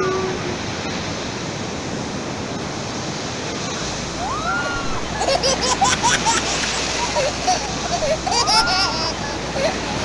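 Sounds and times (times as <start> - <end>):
ocean surf on sandy beach: 0.0 - 10.0.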